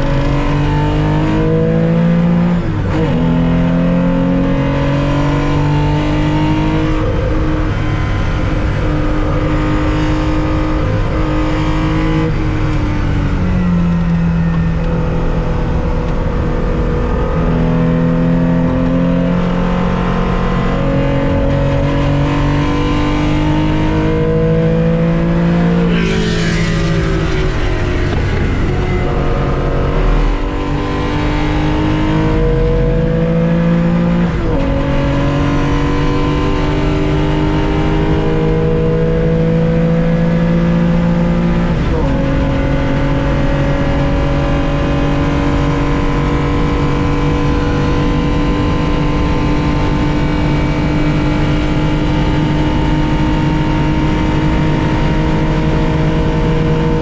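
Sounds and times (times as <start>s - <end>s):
car engine at racing speed: 0.0s - 57.0s.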